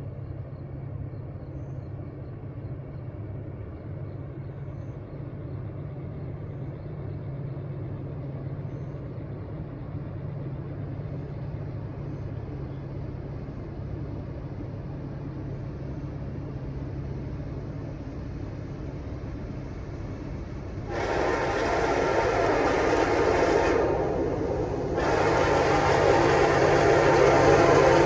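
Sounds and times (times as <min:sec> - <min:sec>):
freight train rumbling past: 0:03.6 - 0:28.0.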